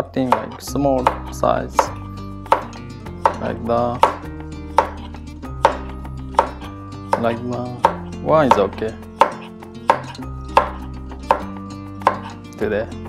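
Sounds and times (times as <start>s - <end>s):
knife chopping on cutting board: 0.0s - 12.4s.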